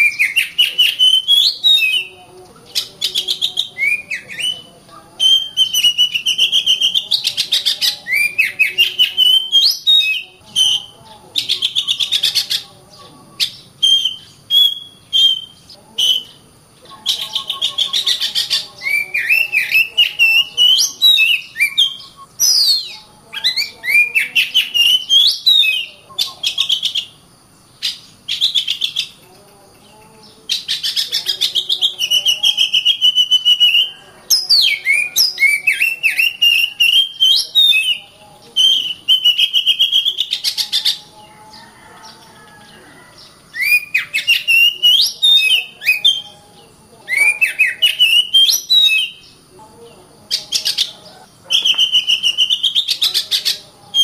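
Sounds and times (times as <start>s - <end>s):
bird singing varied phrases: 0.0s - 54.0s.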